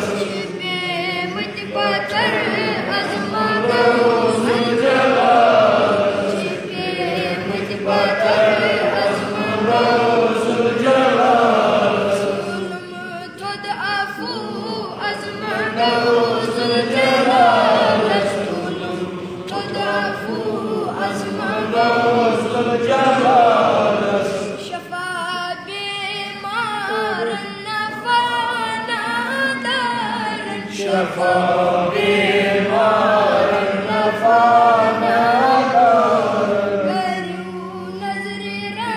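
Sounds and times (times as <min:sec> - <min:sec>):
boy singing devotional song: 0:00.0 - 0:38.9.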